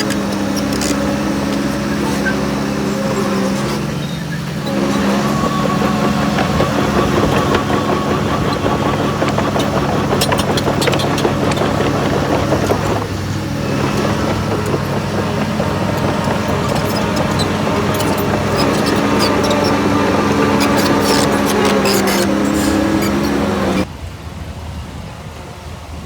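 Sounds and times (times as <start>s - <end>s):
diesel earthmoving machinery running: 0.0s - 23.9s.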